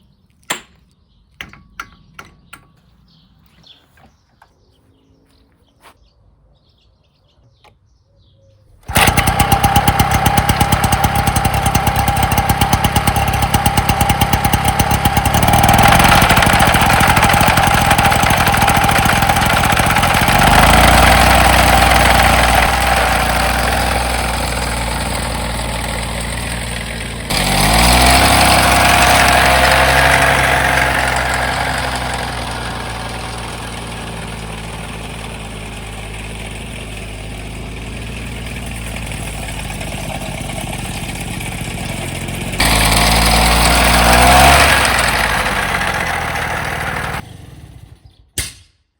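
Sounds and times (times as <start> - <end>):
lawn mower engine running: 8.7 - 48.3.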